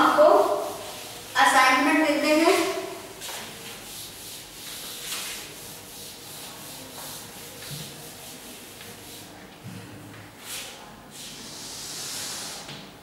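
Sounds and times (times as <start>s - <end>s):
eraser rubbing on chalkboard: 0.0s - 9.4s, 10.4s - 12.8s.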